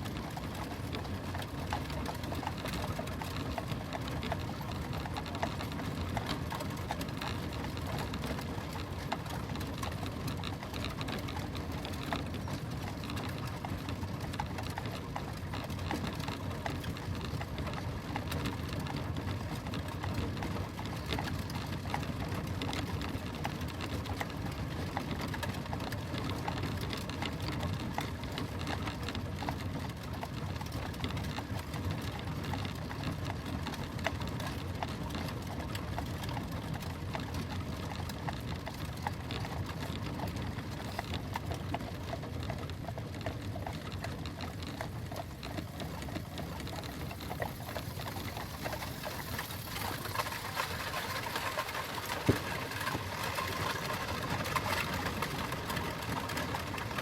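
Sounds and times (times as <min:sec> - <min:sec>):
clatter of horse hooves: 0:00.0 - 0:57.0.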